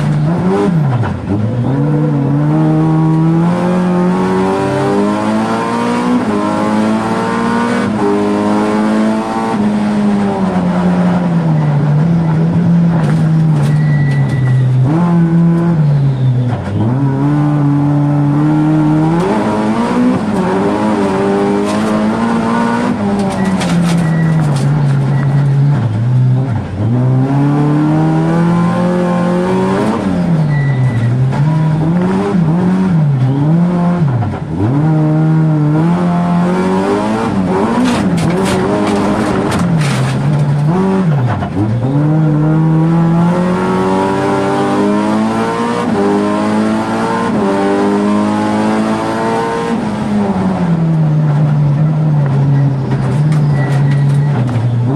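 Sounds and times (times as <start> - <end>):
racing car engine revving: 0.0 - 13.8, 14.5 - 54.9.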